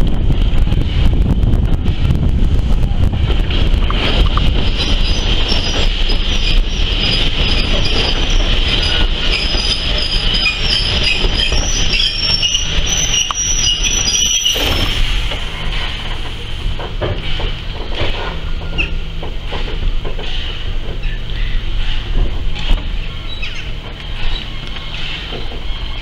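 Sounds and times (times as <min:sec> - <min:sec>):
train running gear rumble: 0:00.0 - 0:26.0
wheels squealing on rails: 0:02.8 - 0:26.0.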